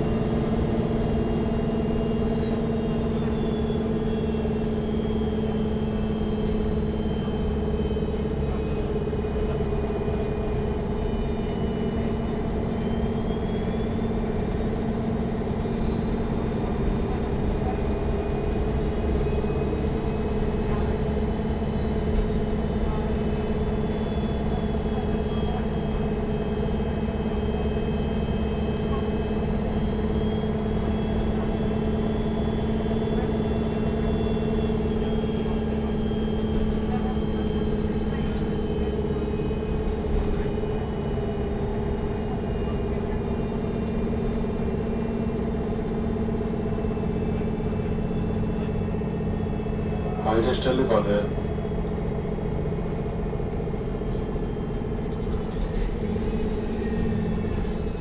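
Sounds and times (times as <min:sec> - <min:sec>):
bus diesel engine hum: 0:00.0 - 0:58.0.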